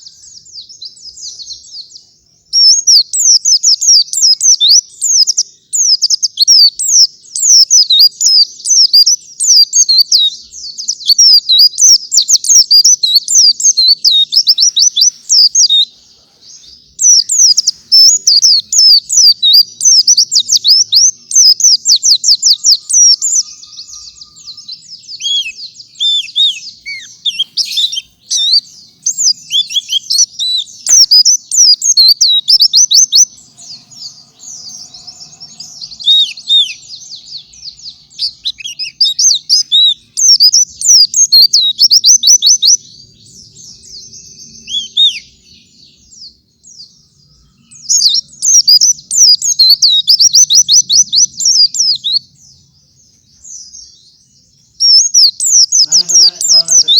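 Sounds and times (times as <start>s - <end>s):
white-eye bird twittering song: 0.0s - 56.9s.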